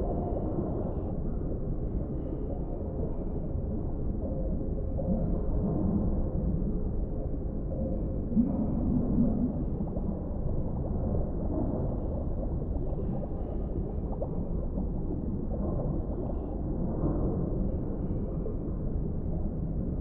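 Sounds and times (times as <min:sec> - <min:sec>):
low rumble of water: 0:00.0 - 0:20.0
soft underwater gurgling: 0:00.0 - 0:20.0.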